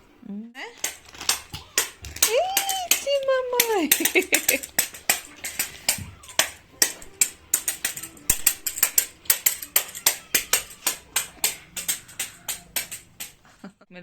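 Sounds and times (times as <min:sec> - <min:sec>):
toy tambourine jingling: 0:00.6 - 0:13.5.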